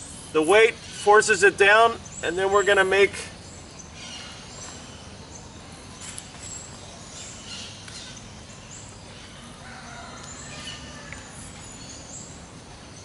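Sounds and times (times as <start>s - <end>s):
birds chirping: 0.0s - 13.0s
low outdoor hiss: 0.0s - 13.0s.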